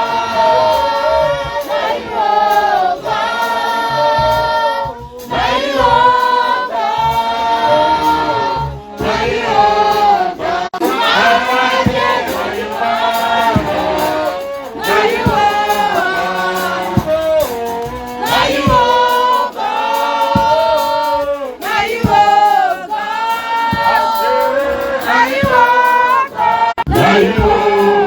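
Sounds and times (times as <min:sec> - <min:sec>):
band playing a steady beat: 0:00.0 - 0:28.0
group singing worship song: 0:00.0 - 0:28.0.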